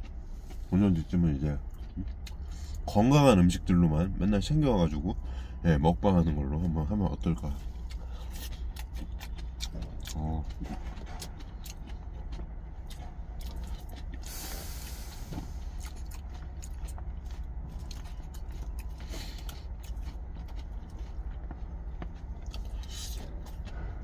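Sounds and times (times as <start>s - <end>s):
chewing crisp salad greens: 0.0s - 5.2s, 5.9s - 24.0s
steady low rumble: 0.0s - 24.0s.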